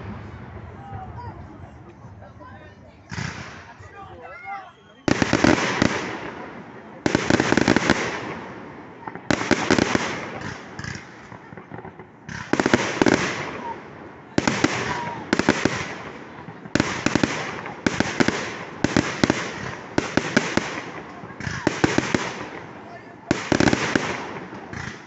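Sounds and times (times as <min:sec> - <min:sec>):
fireworks bursting with crackling: 0:03.0 - 0:04.1, 0:04.9 - 0:25.0.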